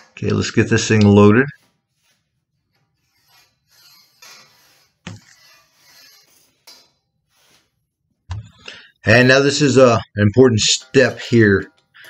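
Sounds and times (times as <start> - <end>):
metal tubing scraping in bender: 0.0 - 9.9.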